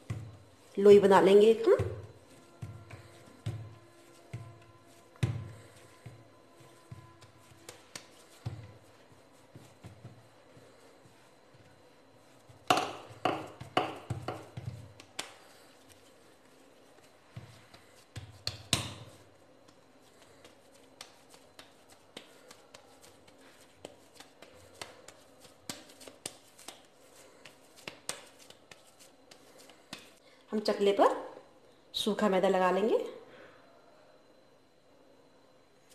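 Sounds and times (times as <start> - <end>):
dough patted on marble board: 0.0 - 30.2
hands kneading dough: 0.0 - 31.3.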